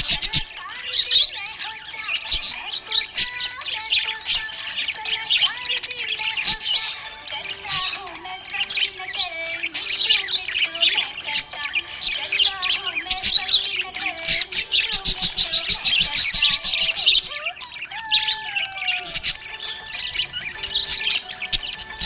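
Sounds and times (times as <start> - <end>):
budgerigars chirping: 0.0 - 22.0.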